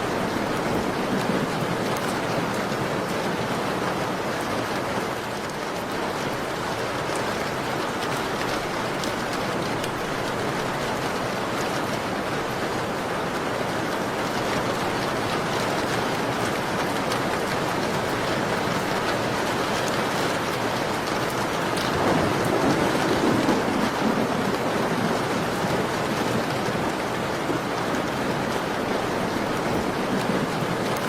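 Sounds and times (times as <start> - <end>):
dense rainfall: 0.0 - 31.0.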